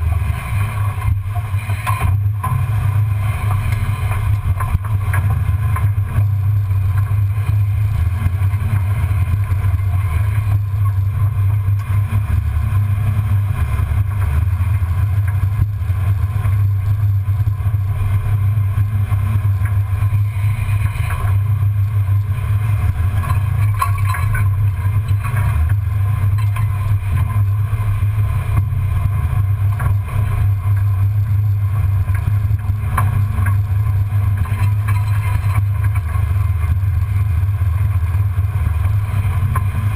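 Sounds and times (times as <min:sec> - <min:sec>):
engine deep drone: 0:00.0 - 0:39.9.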